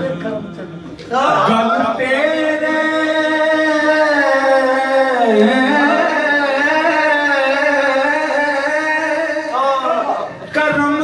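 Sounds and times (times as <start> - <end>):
man singing: 1.1 - 11.0.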